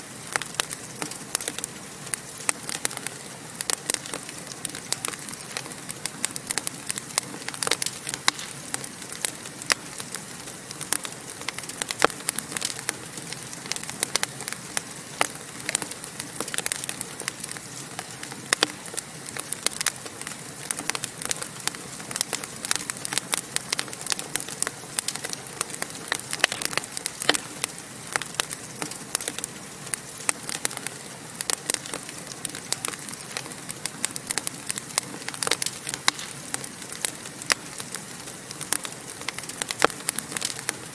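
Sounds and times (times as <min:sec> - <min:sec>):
fire hissing: 0:00.0 - 0:40.9
wood fire crackling and popping: 0:00.0 - 0:40.9.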